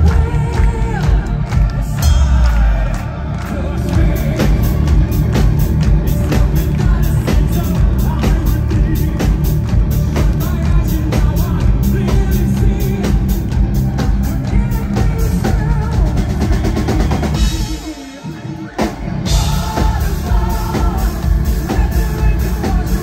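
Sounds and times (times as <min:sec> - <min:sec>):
drum kit steady beat: 0:00.0 - 0:23.0
live rock band playing: 0:00.0 - 0:23.0.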